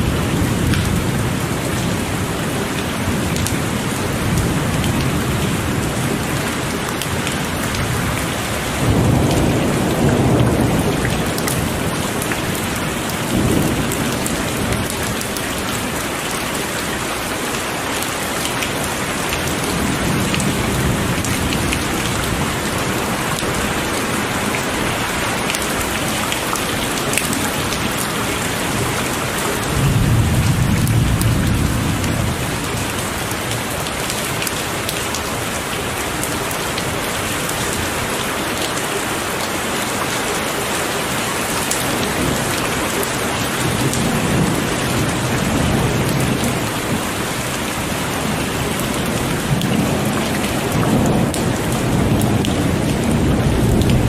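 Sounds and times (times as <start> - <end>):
thunder rumbling: 0.0 - 16.1, 19.0 - 36.3, 41.9 - 54.0
heavy rain: 0.0 - 54.0.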